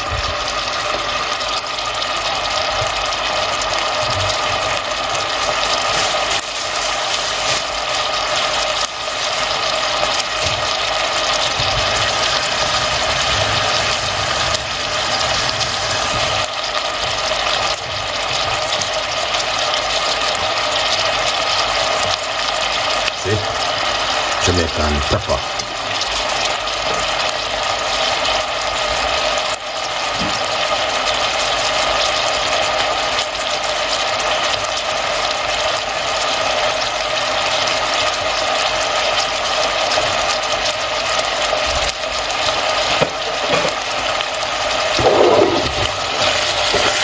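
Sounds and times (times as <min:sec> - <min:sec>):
vegetables sizzling in saucepan: 0:00.0 - 0:47.0.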